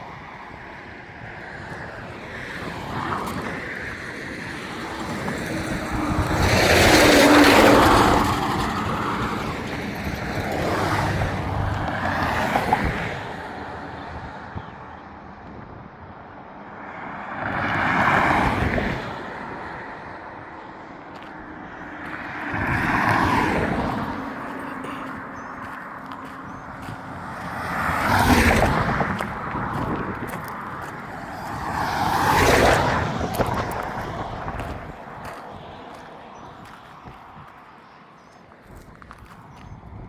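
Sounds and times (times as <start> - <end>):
vehicles passing by: 0.0 - 40.0.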